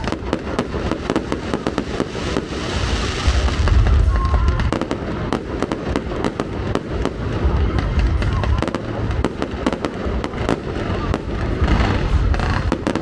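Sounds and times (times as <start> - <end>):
deep rumble of bursting shells: 0.0 - 13.0
fireworks bangs and crackles: 0.0 - 13.0.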